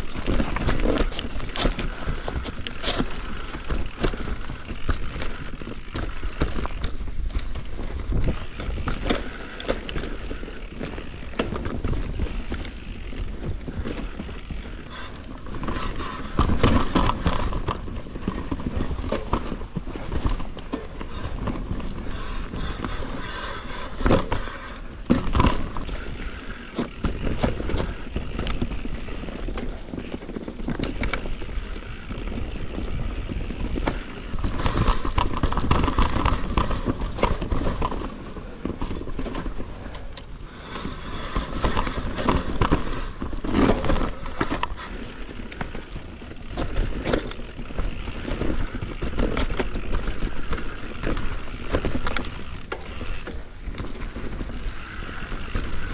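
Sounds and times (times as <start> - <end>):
bike knocking and rattling: 0.0 - 55.9
bike tyres rolling over dirt: 0.0 - 55.9.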